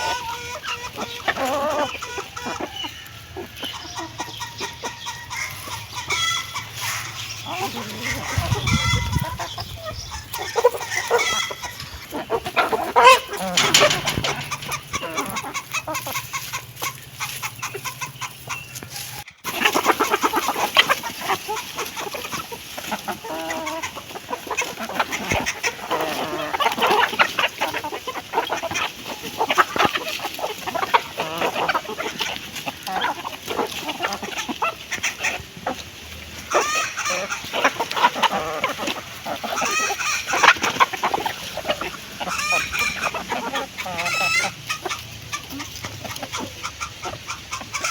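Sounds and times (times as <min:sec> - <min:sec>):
hens clucking: 0:00.0 - 0:47.9.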